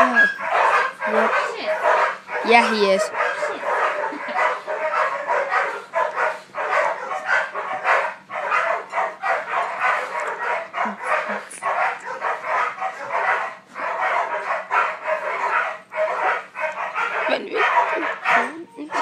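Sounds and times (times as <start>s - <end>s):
puppy yappy barks: 0.0s - 19.0s
puppy play growling: 1.0s - 19.0s.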